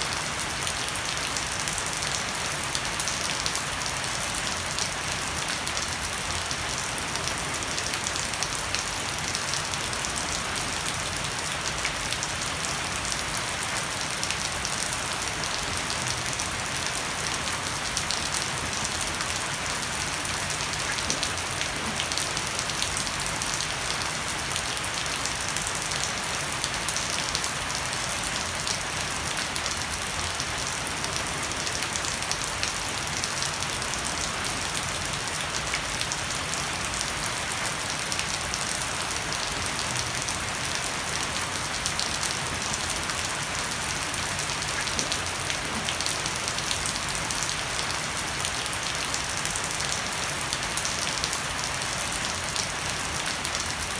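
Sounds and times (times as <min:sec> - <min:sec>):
heavy rain on deck and leaves: 0:00.0 - 0:53.9.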